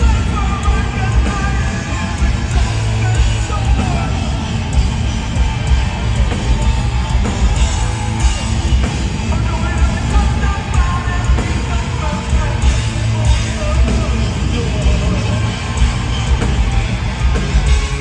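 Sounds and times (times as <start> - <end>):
live heavy metal band: 0.0 - 18.0.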